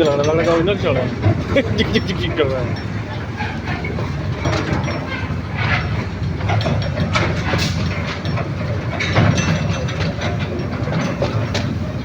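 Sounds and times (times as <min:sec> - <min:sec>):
train wheels clacking on rails: 0:00.0 - 0:12.0.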